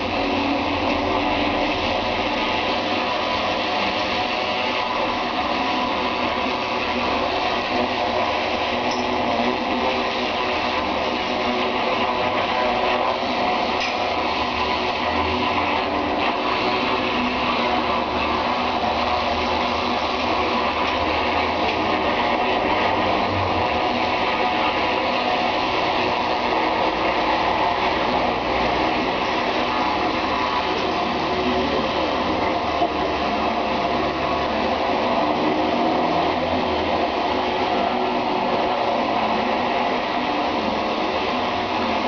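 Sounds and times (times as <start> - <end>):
pressure washer motor humming: 0.0 - 42.0
water jet hissing: 0.0 - 42.0.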